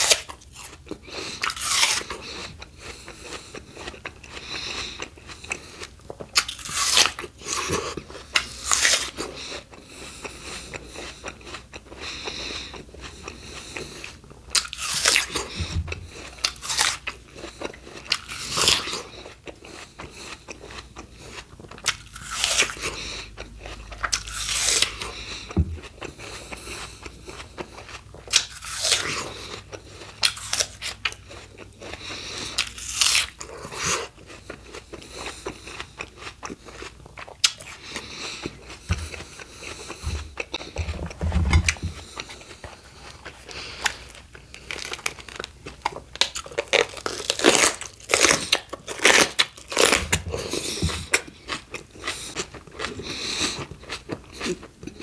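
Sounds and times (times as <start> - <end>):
crunchy biting of raw fruit: 0.0 - 55.0
quiet chewing: 0.0 - 55.0.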